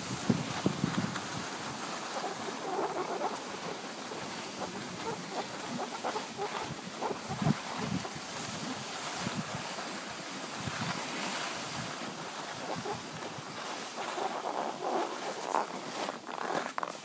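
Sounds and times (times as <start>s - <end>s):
wind on microphone: 0.0s - 15.7s
skis scraping over snow: 0.0s - 17.0s.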